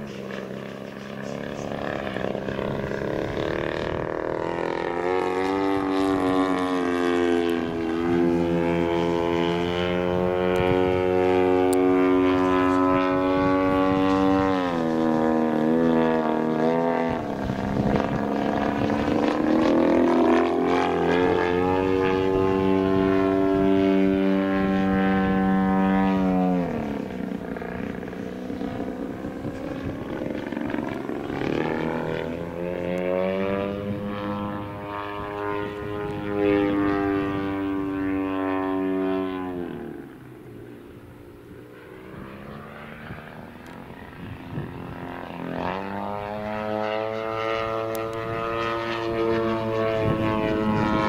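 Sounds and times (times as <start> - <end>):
model airplane motor droning: 0.0 - 51.0.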